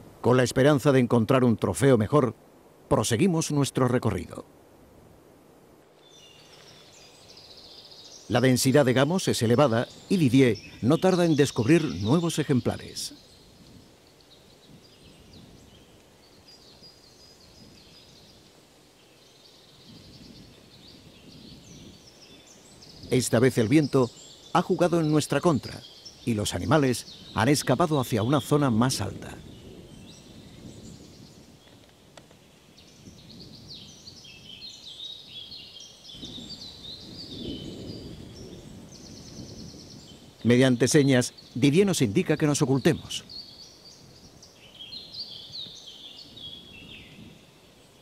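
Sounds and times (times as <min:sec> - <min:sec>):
outdoor background noise: 0:00.0 - 0:48.0
small birds chirping: 0:05.9 - 0:48.0.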